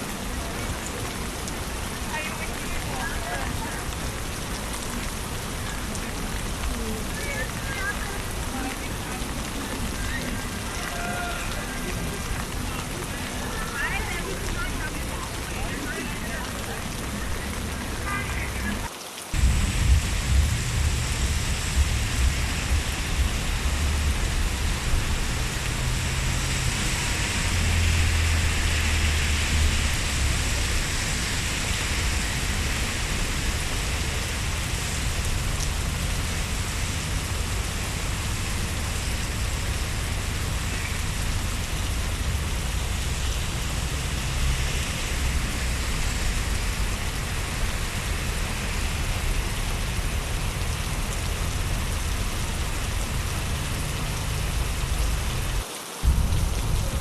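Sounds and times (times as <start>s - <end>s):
rain on a wet street: 0.0s - 57.0s.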